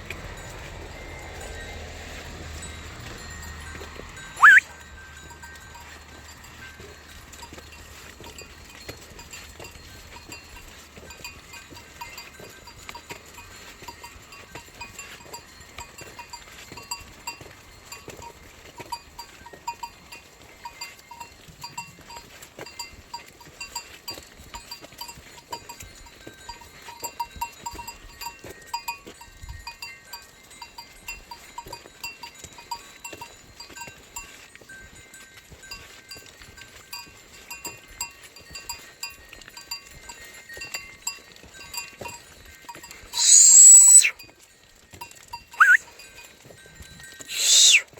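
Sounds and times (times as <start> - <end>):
sheep bells tinkling: 0.0 - 47.9.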